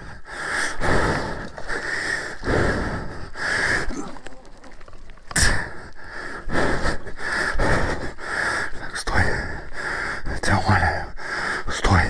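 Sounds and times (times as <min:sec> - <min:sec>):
man breathing hard: 0:00.0 - 0:10.4, 0:11.1 - 0:11.7.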